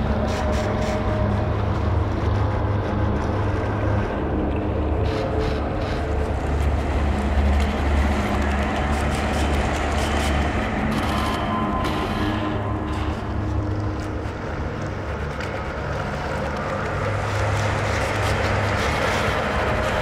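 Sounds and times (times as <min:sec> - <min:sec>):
dark ambient electronic music: 0:00.0 - 0:20.0.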